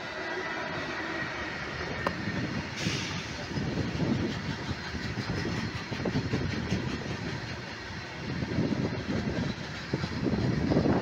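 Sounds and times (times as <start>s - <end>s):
train wheels rumbling and clattering: 0.0s - 11.0s.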